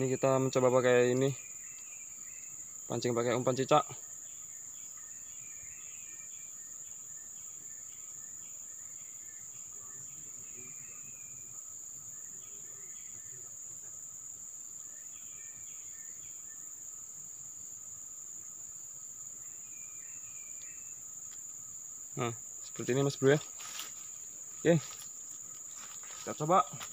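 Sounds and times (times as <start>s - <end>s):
insect chirping calls: 0.0s - 26.9s
insect chorus drone: 0.0s - 26.9s.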